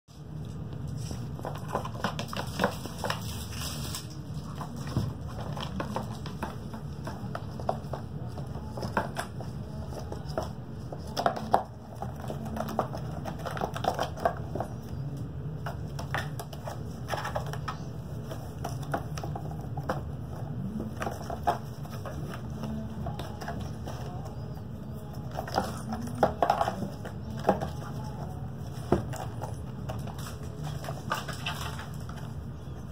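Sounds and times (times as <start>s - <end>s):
steady low hum: 0.1s - 32.9s.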